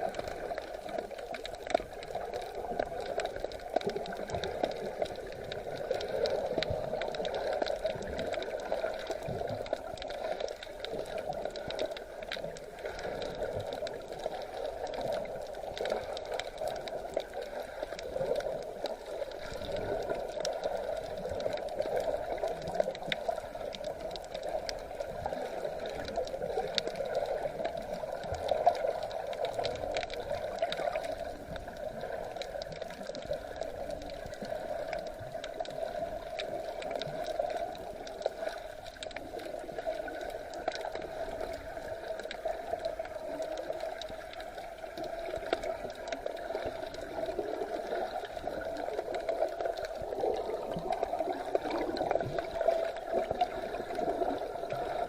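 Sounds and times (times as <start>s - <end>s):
faint clicks: 0.0s - 54.8s
sea water gurgling and sloshing: 0.0s - 55.0s.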